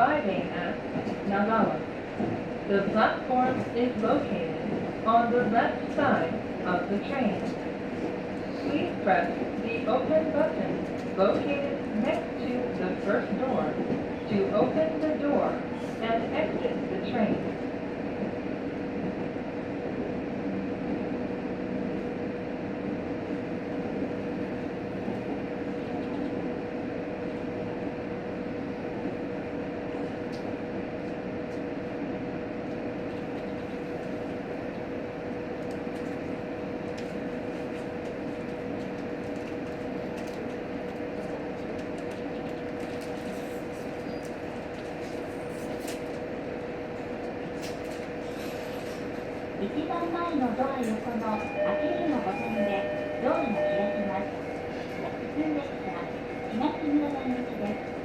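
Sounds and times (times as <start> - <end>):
railcar engine hum: 0.0 - 58.0
train running rumble: 0.0 - 58.0.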